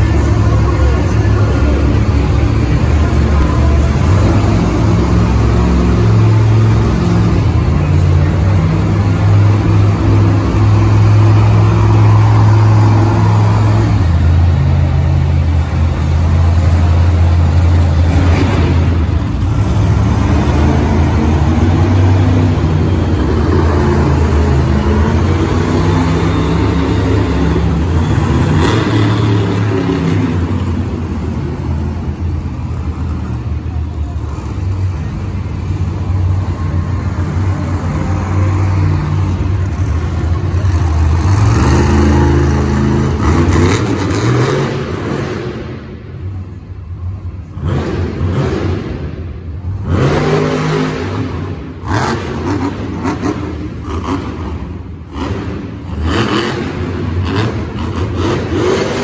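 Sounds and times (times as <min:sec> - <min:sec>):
monster truck engines revving: 0:00.0 - 0:59.0.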